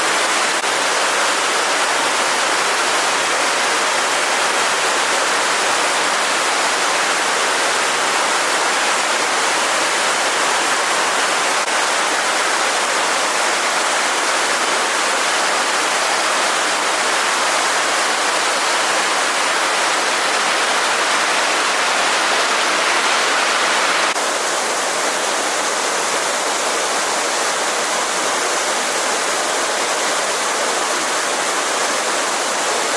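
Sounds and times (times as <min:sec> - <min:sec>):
stream water rushing: 0:00.0 - 0:32.9.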